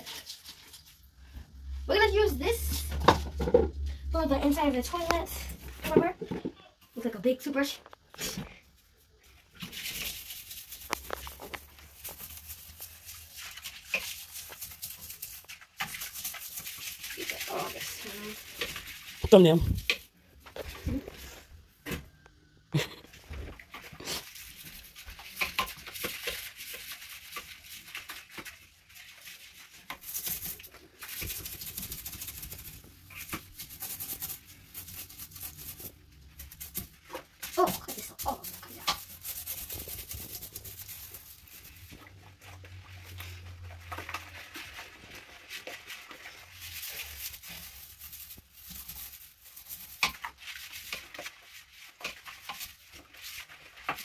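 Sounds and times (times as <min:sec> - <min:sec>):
brush scrubbing a toilet: 0:00.0 - 0:22.2, 0:22.8 - 0:54.0.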